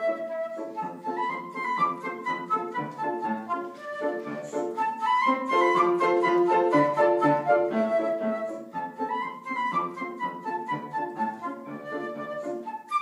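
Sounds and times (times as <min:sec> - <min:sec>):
flute playing a quick melody: 0:00.0 - 0:13.0
grand piano accompaniment: 0:00.0 - 0:13.0.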